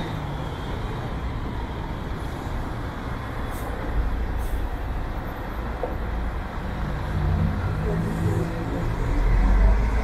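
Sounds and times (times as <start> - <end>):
bus engine running low: 0.0 - 10.0
traffic: 0.0 - 10.0.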